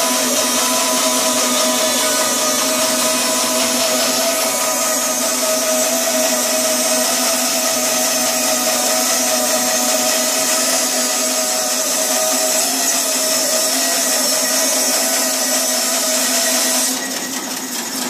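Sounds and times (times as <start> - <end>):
bandsaw mill cutting wood: 0.0 - 18.0.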